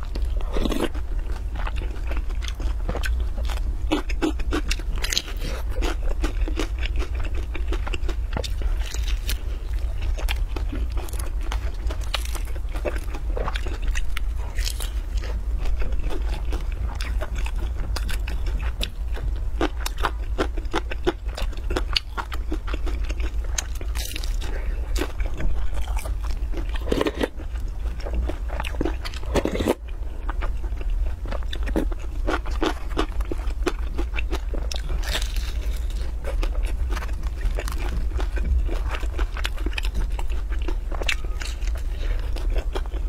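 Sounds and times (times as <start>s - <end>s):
chewing and crunching flatbread: 0.0s - 43.0s
steady low hum: 0.0s - 43.0s.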